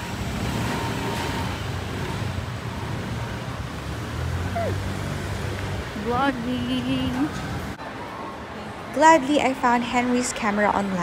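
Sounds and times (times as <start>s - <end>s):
rumble of cars: 0.0s - 11.0s.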